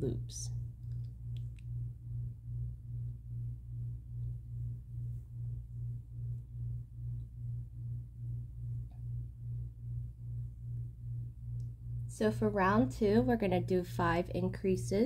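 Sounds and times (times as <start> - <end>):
low pulsing hum: 0.0 - 15.0.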